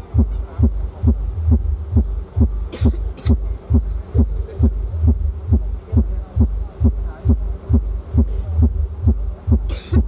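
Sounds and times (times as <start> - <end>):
heavy bass beat thumping: 0.0 - 10.0.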